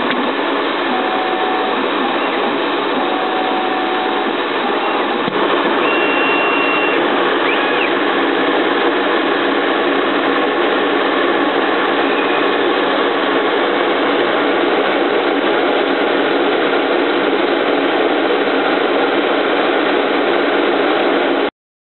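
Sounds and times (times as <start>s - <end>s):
milling machine running: 0.0s - 21.5s.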